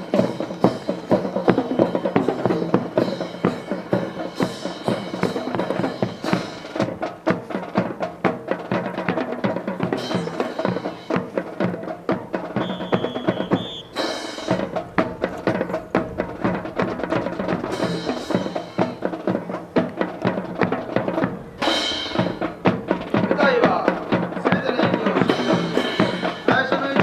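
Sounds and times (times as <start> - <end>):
drum and percussion music: 0.0 - 27.0.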